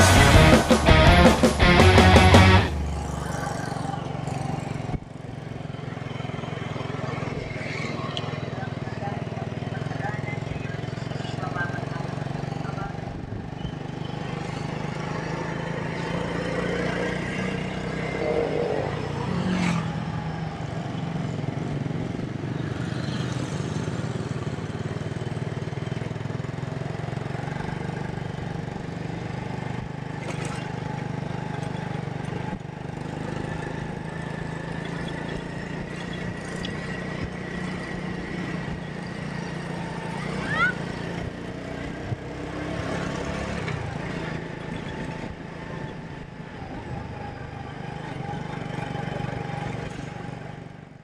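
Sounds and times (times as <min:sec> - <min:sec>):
small motorcycle engine running: 0:00.0 - 0:51.0.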